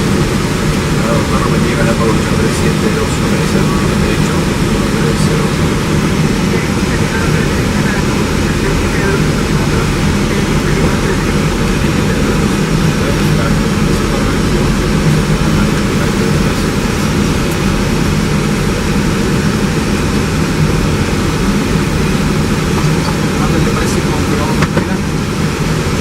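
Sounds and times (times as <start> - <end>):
airflow and engine noise in cabin: 0.0 - 26.0
low hum: 0.0 - 26.0.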